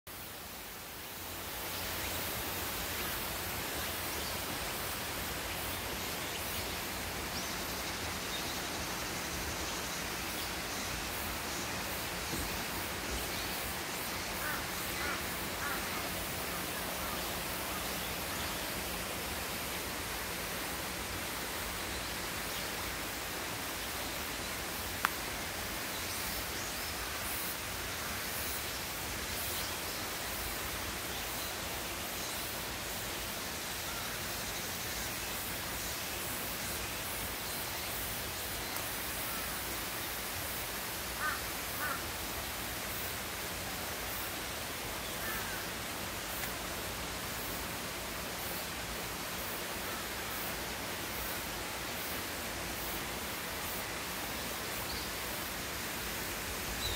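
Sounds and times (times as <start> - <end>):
stream rushing: 0.1 - 56.9.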